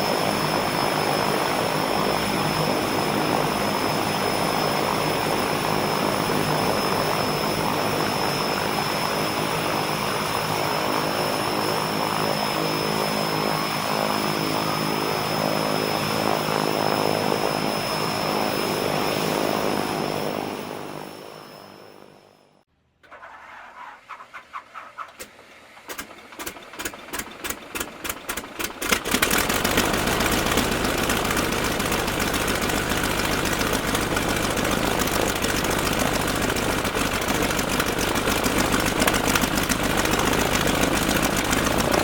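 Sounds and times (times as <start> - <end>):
propeller airplane engine running: 0.0 - 22.4, 23.1 - 42.0.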